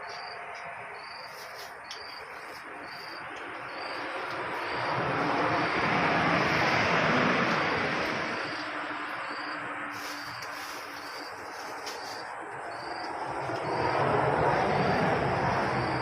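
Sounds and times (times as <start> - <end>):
cricket chirping: 0.0 - 16.0
vehicle passing on road: 0.0 - 16.0.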